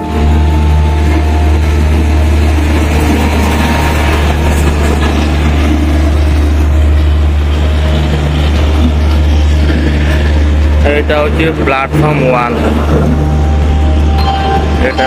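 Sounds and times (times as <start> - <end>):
diesel generators droning: 0.0 - 15.0.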